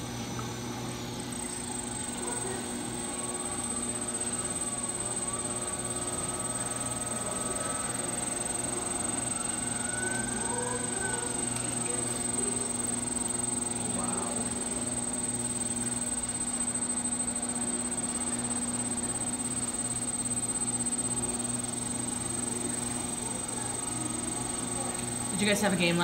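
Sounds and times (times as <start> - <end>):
pottery wheel motor hum: 0.0 - 26.0.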